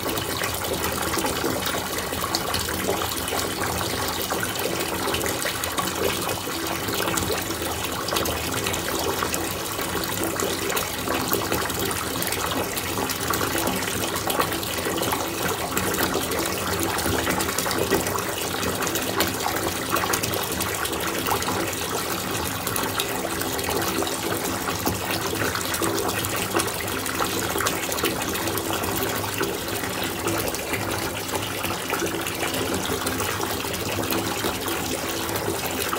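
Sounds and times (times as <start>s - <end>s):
bath bomb fizzing: 0.0s - 35.9s.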